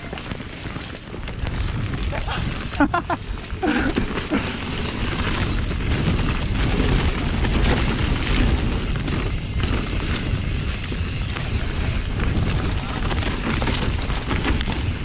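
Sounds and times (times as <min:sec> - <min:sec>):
bike rolling over dirt trail: 0:00.0 - 0:15.0
wind buffeting microphone: 0:00.0 - 0:15.0.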